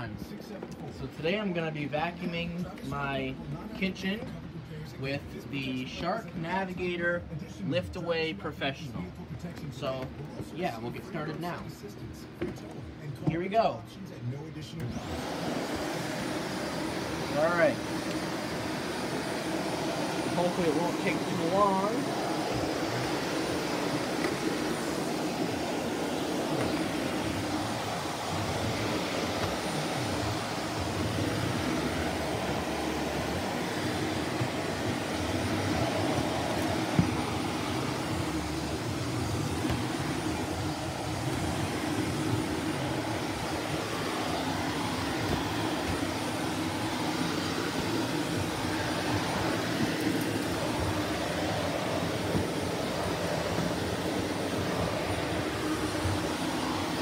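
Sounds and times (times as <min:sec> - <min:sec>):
vacuum cleaner droning: 0:00.0 - 0:57.0.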